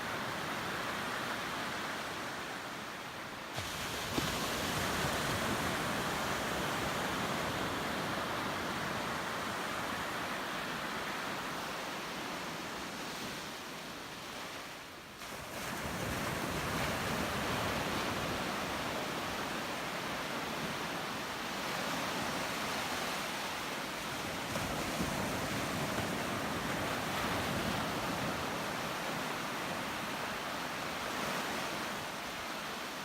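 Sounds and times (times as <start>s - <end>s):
ocean surf washing ashore: 0.0s - 33.0s.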